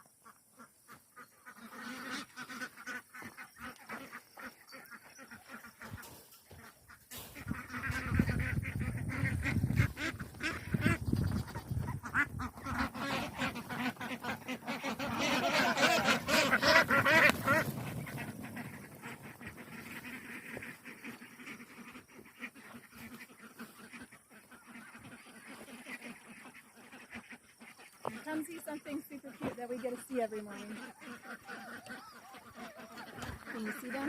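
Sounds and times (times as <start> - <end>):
ducks quacking and honking: 0.0 - 34.0.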